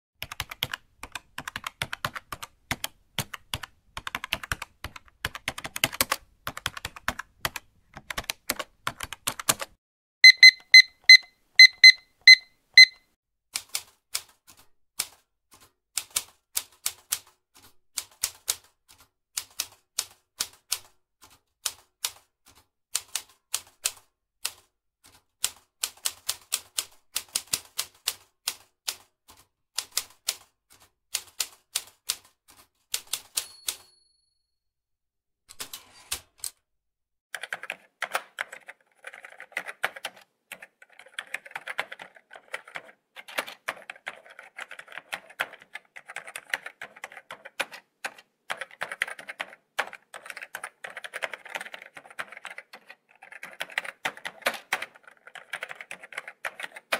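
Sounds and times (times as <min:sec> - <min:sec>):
keyboard typing: 0:00.2 - 0:13.0, 0:13.6 - 0:33.9, 0:37.4 - 0:56.9.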